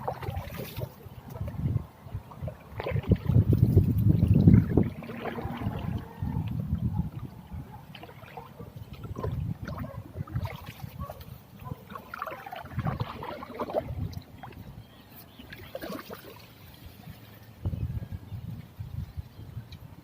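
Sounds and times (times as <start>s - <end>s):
water sloshing and splashing: 0.0s - 18.1s.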